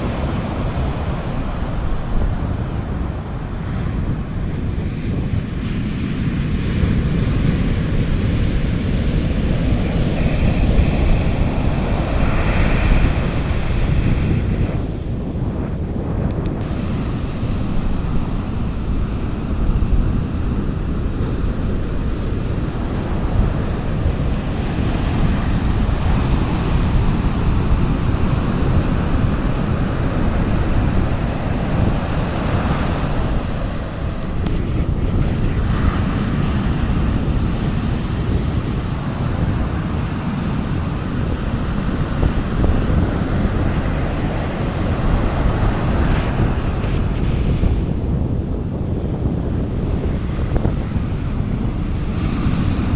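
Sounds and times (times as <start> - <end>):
sea waves washing onto beach: 0.0 - 52.9
wind buffeting microphone: 0.0 - 52.9.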